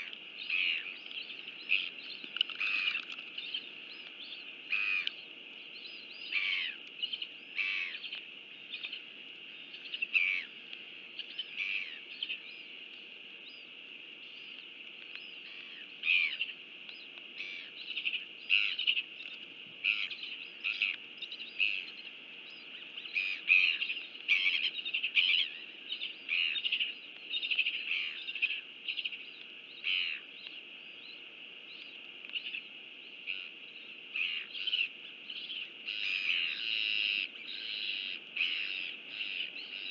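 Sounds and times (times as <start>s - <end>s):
birds chirping: 0.0s - 39.9s
steady hiss: 0.0s - 39.9s.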